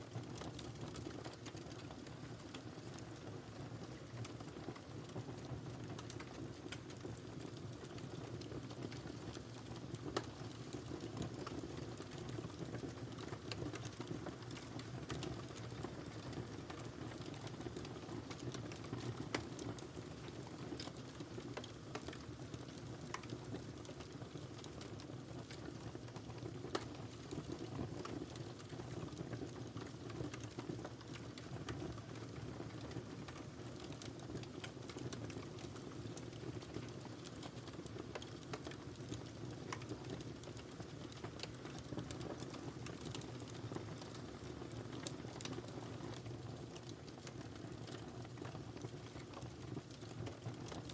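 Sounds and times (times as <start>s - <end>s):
fire crackling and popping: 0.1s - 50.9s.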